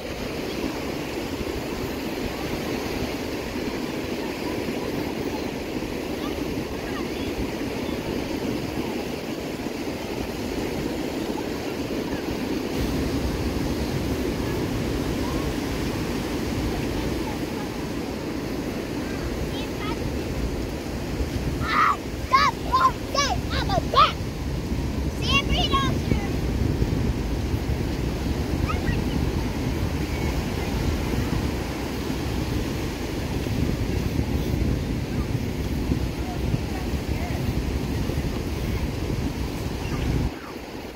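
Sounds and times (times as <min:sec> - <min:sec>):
ocean surf breaking on beach: 0:00.0 - 0:40.9
wind rumble on microphone: 0:00.0 - 0:40.9.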